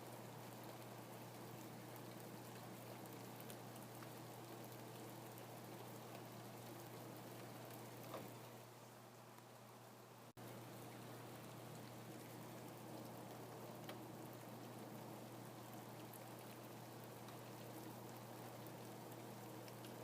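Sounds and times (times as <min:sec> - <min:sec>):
raindrop ticks: 0:00.0 - 0:08.5, 0:10.4 - 0:20.0
faint steady rain: 0:00.0 - 0:20.0.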